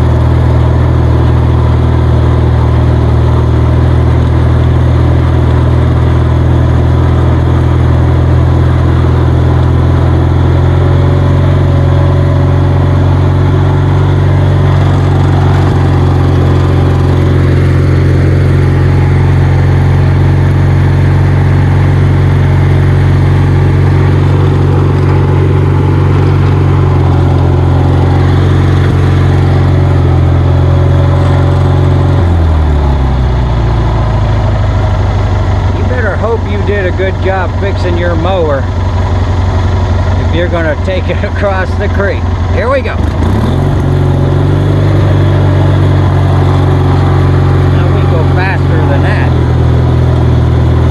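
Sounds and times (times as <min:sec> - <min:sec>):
lawnmower engine running: 0:00.0 - 0:50.9.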